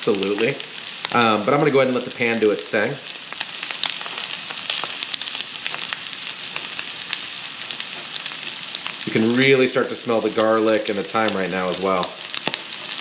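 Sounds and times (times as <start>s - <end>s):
fat popping and crackling: 0.0s - 9.5s, 10.2s - 13.0s
steak sizzling in a skillet: 0.0s - 13.0s.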